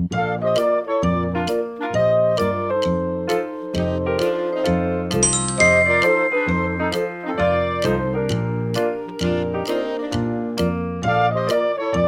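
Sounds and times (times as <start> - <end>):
upbeat instrumental music: 0.3 - 11.9.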